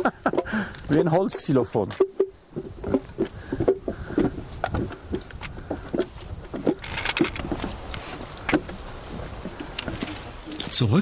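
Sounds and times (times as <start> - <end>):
footsteps on wooden stairs: 0.0 - 10.9.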